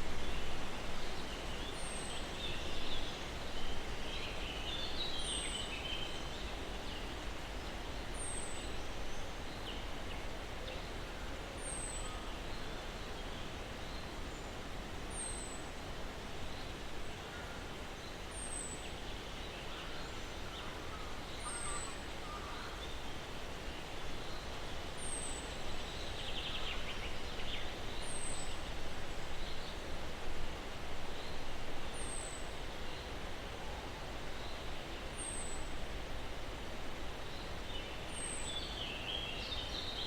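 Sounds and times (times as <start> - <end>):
breeze hissing through pine branches: 0.0 - 40.0.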